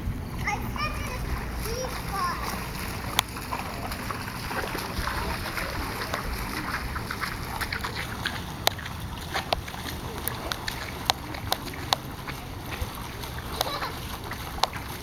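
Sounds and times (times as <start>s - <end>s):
floodwater sloshing and splashing: 0.0s - 15.0s
water rushing: 0.0s - 15.0s
sharp taps and splats: 0.4s - 15.0s.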